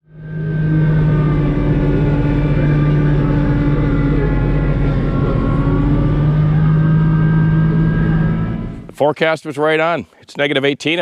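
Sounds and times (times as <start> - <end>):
tractor diesel engine running: 0.0 - 9.1.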